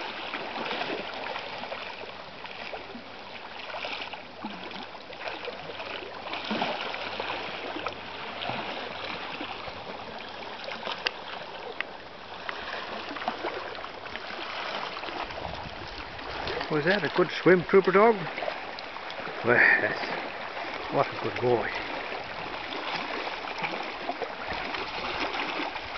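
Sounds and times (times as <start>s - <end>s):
small clicks and splashes: 0.0s - 25.9s
small waves lapping on rocks: 0.0s - 25.9s.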